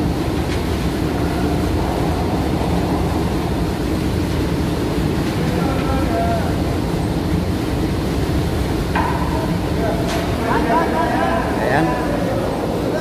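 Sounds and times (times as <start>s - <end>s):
machinery rumbling: 0.0s - 13.0s.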